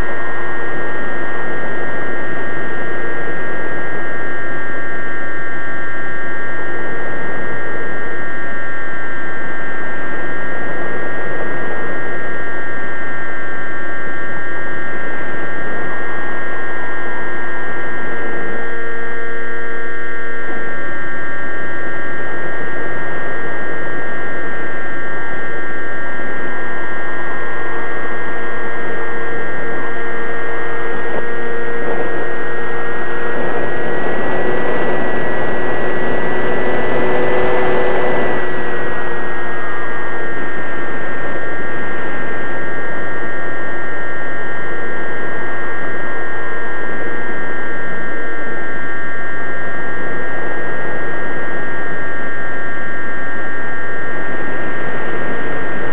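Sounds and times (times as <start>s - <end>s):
model airplane motor whining: 0.0s - 55.9s.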